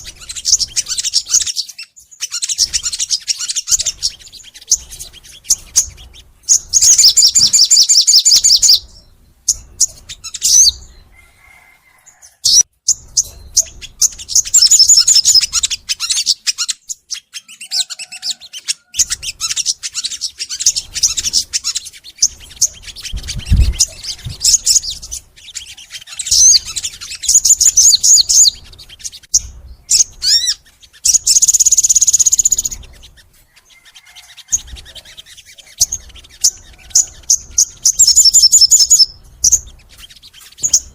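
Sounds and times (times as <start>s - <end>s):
bird singing fast trills: 0.0s - 11.4s, 12.0s - 40.9s.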